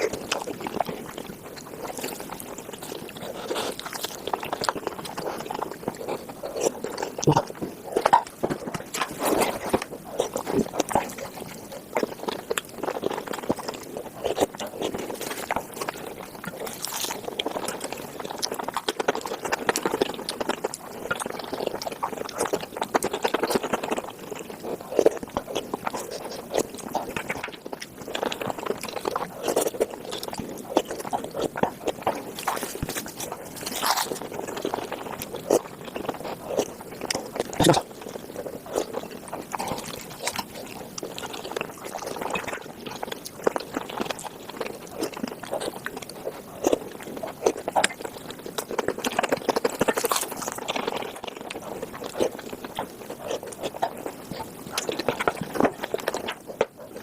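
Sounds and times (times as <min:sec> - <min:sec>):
person chewing and slurping: 0:00.0 - 0:57.0.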